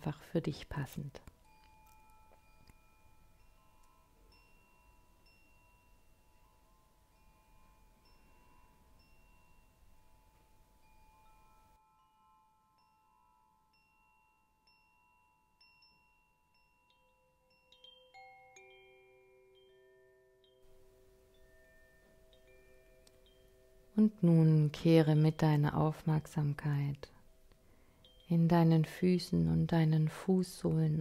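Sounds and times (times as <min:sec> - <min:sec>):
background hiss: 0:00.0 - 0:31.0
soft high bell-like notes: 0:00.0 - 0:31.0
long held ambient tones: 0:01.4 - 0:30.8.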